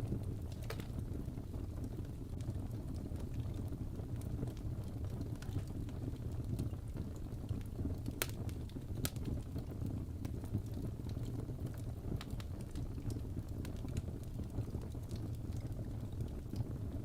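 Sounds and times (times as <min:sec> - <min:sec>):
fire crackling and popping: 0:00.0 - 0:17.0
flames rumbling: 0:00.0 - 0:17.0.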